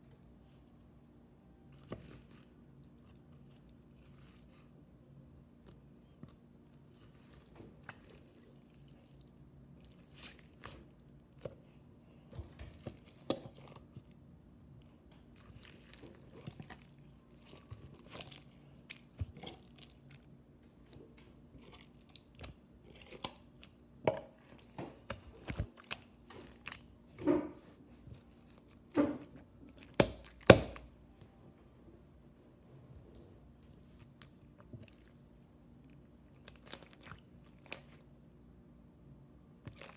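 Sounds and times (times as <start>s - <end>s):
slime squelching: 1.6s - 31.1s, 33.0s - 38.2s, 39.5s - 39.9s.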